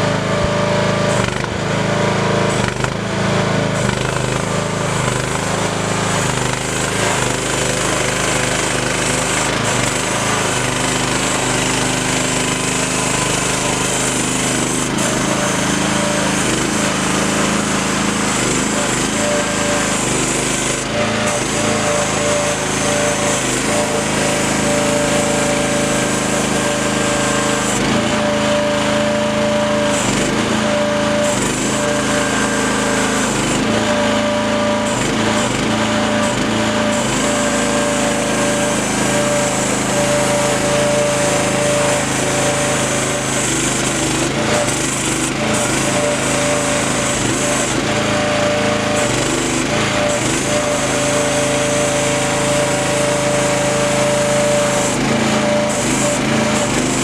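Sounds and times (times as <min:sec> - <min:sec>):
excavator whine: 0:00.0 - 0:57.0
mini excavator engine rattle: 0:00.0 - 0:57.0.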